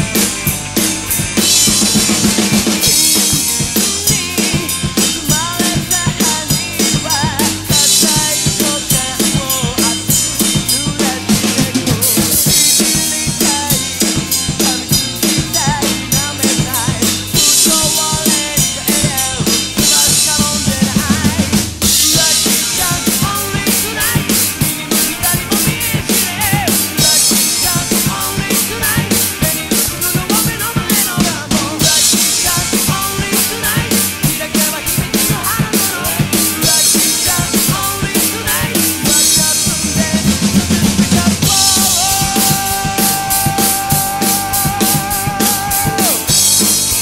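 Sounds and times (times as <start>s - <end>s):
drum kit playing: 0.0s - 47.0s
rock song recording with singing: 0.0s - 47.0s.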